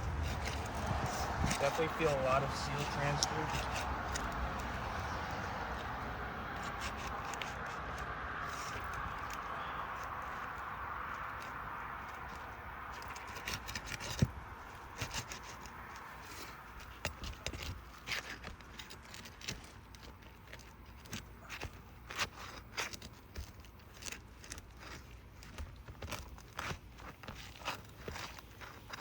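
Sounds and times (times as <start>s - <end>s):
roof shingles crackling: 0.0s - 29.0s.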